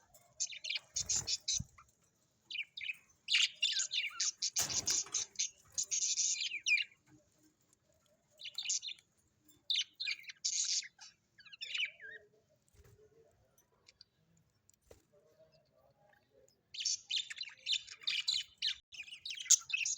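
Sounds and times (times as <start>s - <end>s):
birds chirping and twittering: 0.0s - 19.9s.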